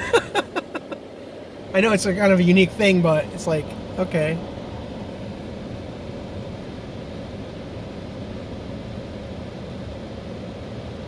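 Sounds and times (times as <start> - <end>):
car cabin hum and hiss: 0.0 - 11.0.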